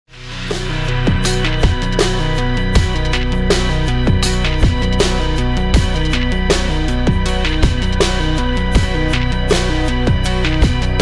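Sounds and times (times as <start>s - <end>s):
background music with steady beat: 0.1s - 11.0s.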